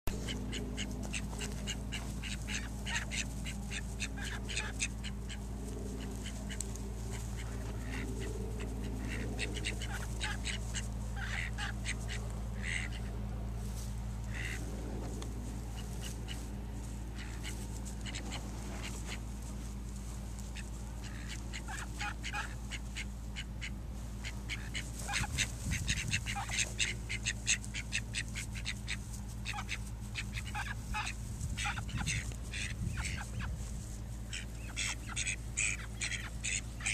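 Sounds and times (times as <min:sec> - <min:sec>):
ducks quacking: 0:00.1 - 0:36.9.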